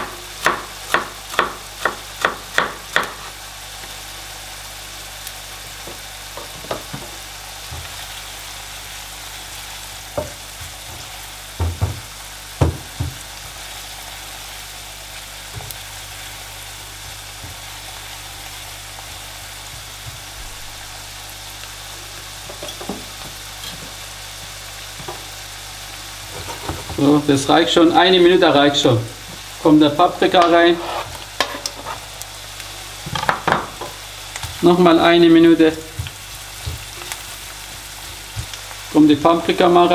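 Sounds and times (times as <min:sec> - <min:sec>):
onion sizzling in a pan: 0:00.0 - 0:39.9.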